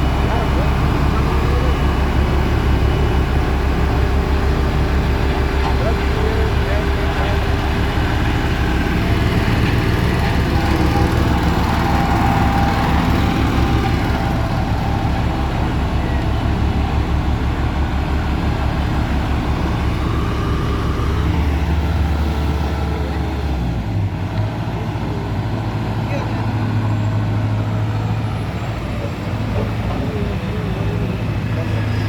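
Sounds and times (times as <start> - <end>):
diesel engine of heavy machinery: 0.0 - 32.0.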